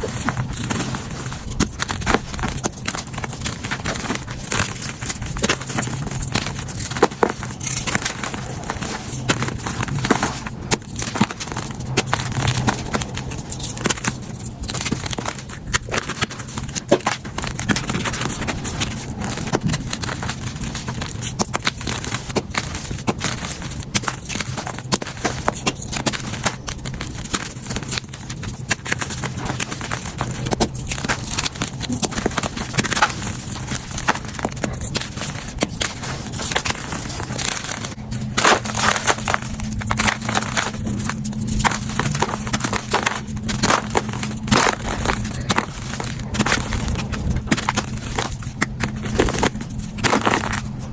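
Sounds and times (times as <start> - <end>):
chalk crunching and crackling: 0.0 - 50.9
faint low hum: 0.0 - 50.9.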